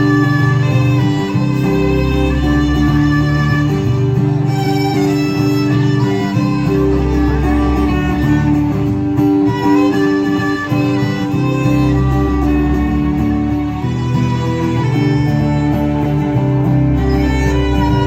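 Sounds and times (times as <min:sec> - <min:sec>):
bass line: 0:00.0 - 0:18.0
fiddle-like melody: 0:00.0 - 0:18.0
guitar: 0:00.0 - 0:18.0.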